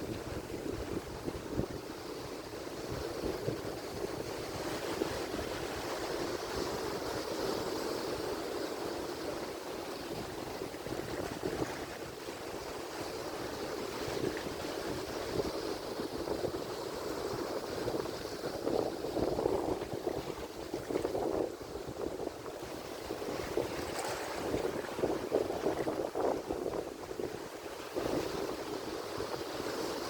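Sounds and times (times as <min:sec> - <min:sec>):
surf breaking ashore: 0:00.0 - 0:30.0
wind rumbling on microphone: 0:00.0 - 0:30.0.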